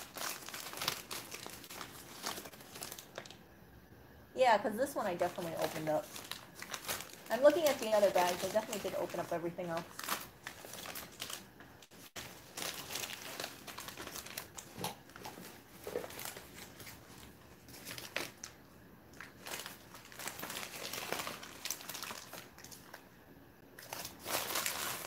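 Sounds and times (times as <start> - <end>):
paper bags rustling: 0.0 - 3.4, 4.8 - 18.6, 19.2 - 23.0, 23.8 - 25.0.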